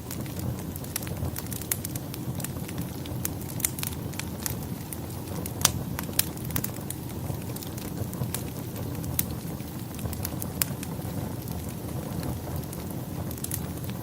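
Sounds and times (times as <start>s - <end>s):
low steady fire rumble: 0.0s - 14.0s
wood fire crackling and popping: 0.0s - 14.0s.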